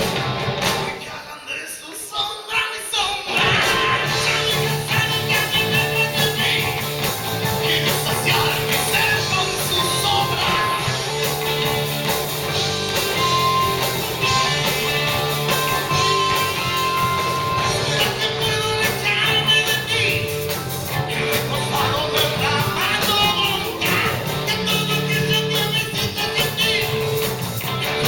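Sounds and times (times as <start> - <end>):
electric guitar: 0.0 - 1.2, 3.2 - 28.0
rock band playing live: 0.0 - 1.4, 3.0 - 28.0
person singing: 0.8 - 11.7, 12.9 - 28.0.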